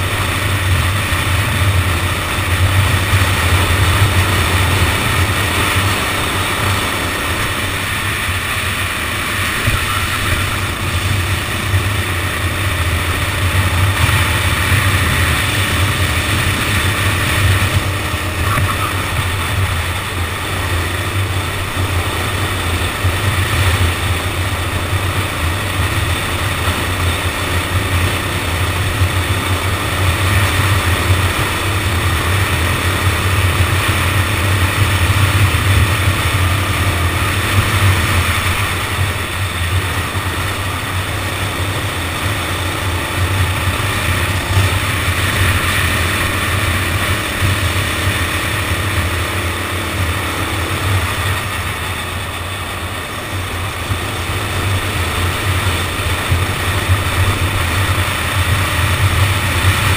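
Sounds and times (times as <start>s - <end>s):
go-kart engine running: 0.0s - 59.9s
rushing wind noise: 0.0s - 59.9s.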